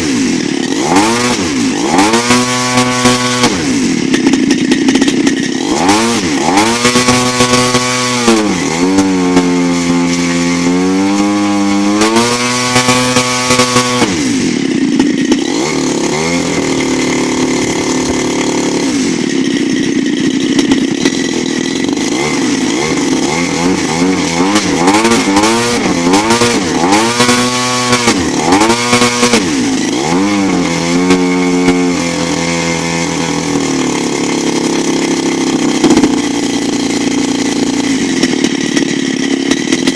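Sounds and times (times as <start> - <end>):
model airplane engine revving: 0.0 - 39.9.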